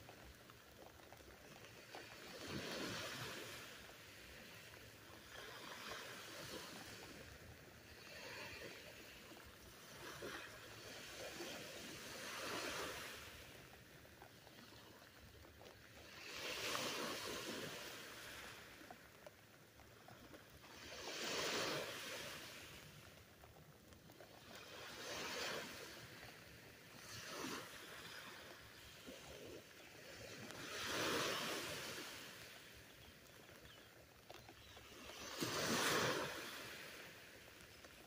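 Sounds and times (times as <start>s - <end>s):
waves breaking on beach: 0.0s - 38.0s.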